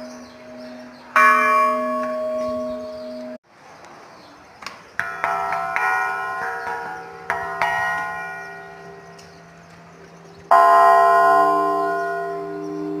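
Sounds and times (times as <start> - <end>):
bells ringing: 0.0 - 3.4, 5.0 - 13.0.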